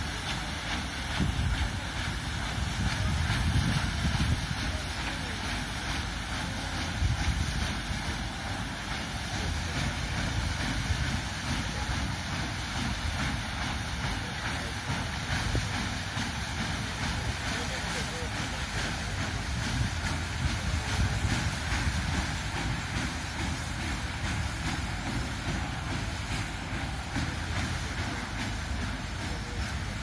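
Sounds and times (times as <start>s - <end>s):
paddle steamer running: 0.0s - 30.0s.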